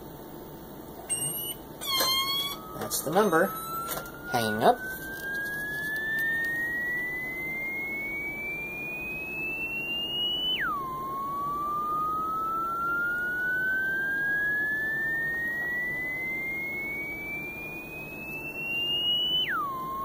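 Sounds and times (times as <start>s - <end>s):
pure tone sweeping upward: 1.1s - 20.0s.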